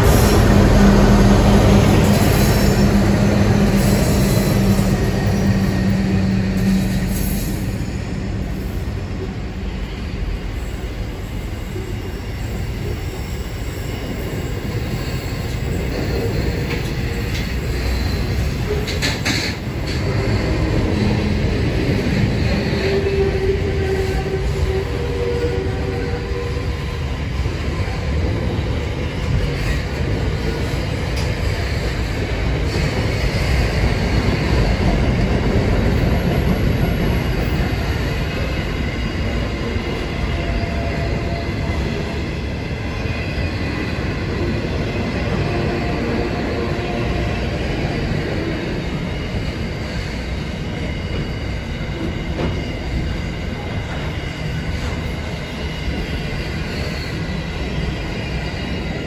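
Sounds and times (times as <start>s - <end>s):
freight train rumbling on track: 0.0s - 59.0s.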